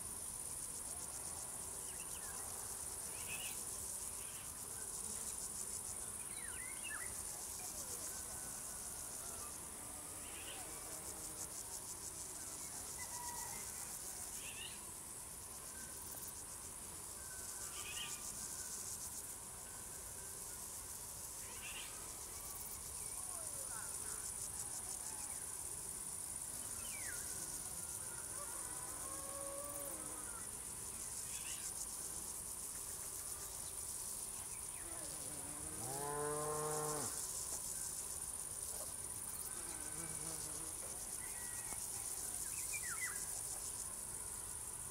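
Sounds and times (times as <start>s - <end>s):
crickets chorus: 0.0s - 44.9s.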